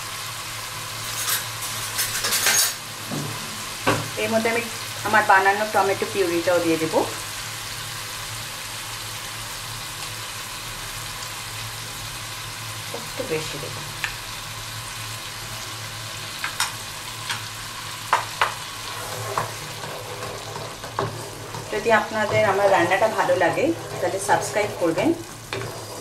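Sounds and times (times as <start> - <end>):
spices sizzling in oil: 0.0 - 26.0.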